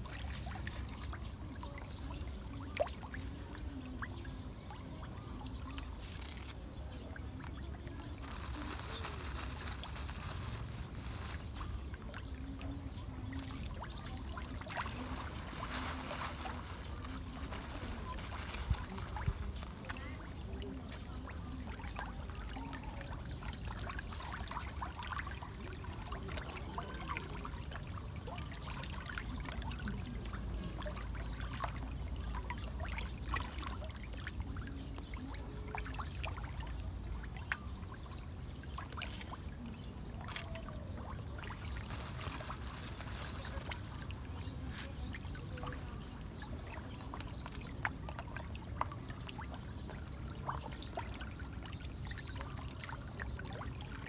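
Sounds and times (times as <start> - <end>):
fish splashing in water: 0.0 - 54.0.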